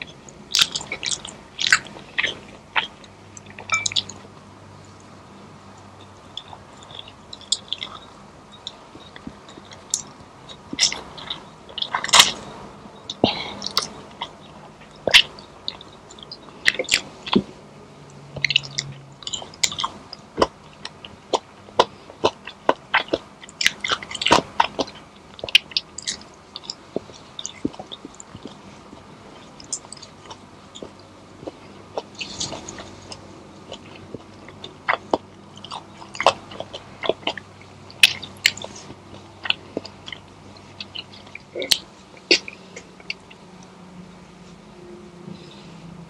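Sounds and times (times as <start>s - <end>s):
person chewing food: 0.0s - 4.3s, 5.8s - 12.5s, 13.1s - 43.7s.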